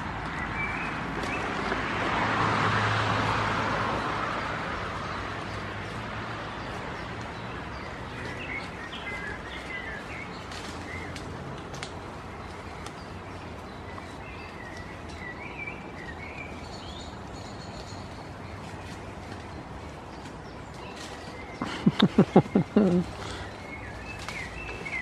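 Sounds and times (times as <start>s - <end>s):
small birds chirping: 0.0s - 2.1s, 3.7s - 25.0s
outdoor background hum: 0.0s - 25.0s.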